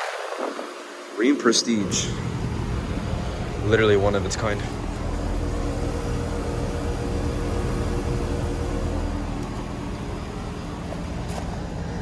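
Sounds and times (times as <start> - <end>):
condenser fan air rushing: 0.0 - 12.0
low hum with steady tones: 0.0 - 12.0.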